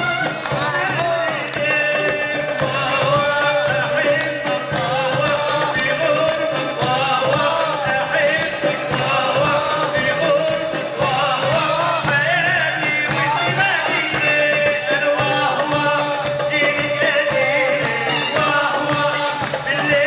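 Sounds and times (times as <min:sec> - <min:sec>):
drum and bass beat: 0:00.0 - 0:20.0
live band dance music: 0:00.0 - 0:20.0.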